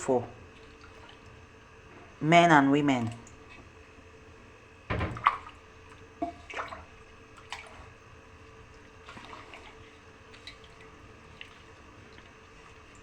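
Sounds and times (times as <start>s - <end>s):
liquid dripping and splashing: 0.4s - 2.2s, 2.9s - 4.0s, 4.9s - 13.0s.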